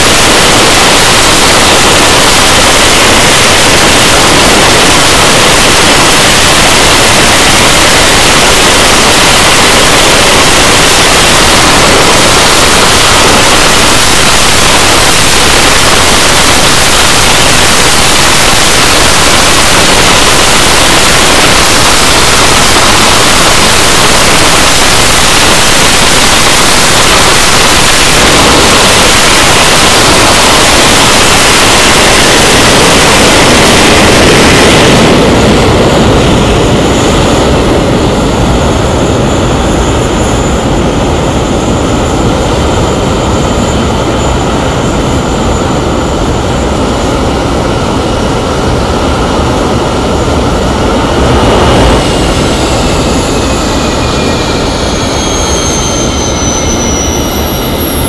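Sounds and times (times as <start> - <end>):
loud jet engine noise: 0.0 - 58.0.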